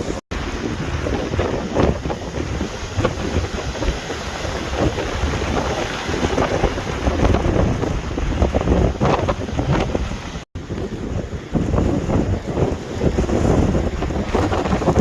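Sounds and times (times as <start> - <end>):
heavy surf rumbling: 0.0 - 15.0
strong wind buffeting microphone: 0.0 - 15.0.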